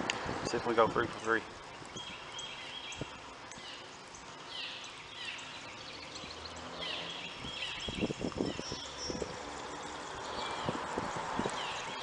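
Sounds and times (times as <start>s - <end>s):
background hiss: 0.0s - 12.0s
birds chirping downward calls: 0.6s - 12.0s.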